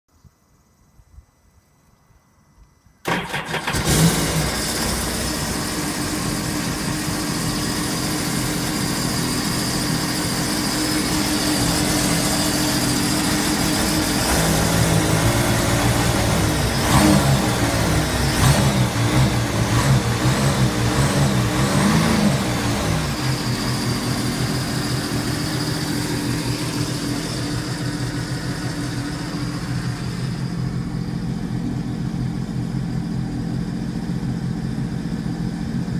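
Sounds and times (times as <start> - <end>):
watercraft engine starting and idling: 3.0 - 35.8.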